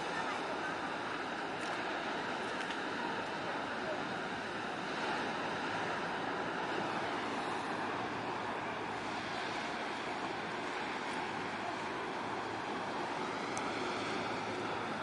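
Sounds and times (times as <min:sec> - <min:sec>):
outdoor ambient noise: 0:00.0 - 0:15.0.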